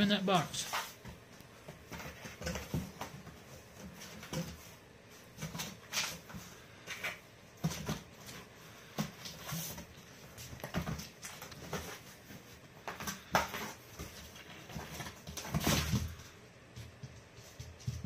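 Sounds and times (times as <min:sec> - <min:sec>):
cat scratching cardboard box: 0:00.6 - 0:16.3.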